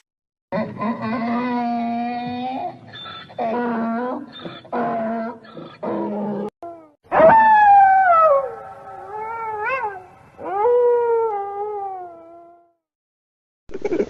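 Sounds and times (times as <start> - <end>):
domestic animal howling: 0.6 - 6.5, 7.1 - 12.6.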